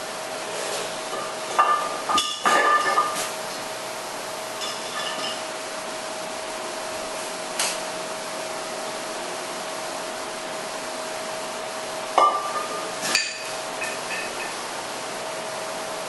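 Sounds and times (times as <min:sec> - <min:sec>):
steady hum and hiss: 0:00.0 - 0:16.0.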